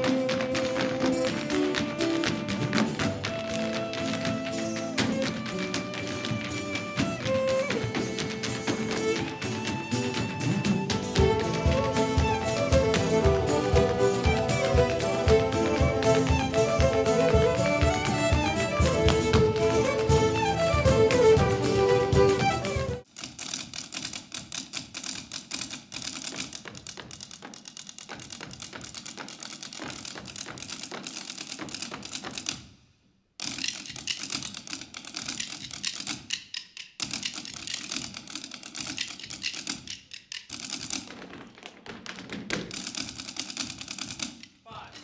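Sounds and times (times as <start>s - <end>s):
hard shoes tapping on wooden stage: 0.0s - 32.7s, 33.4s - 45.0s.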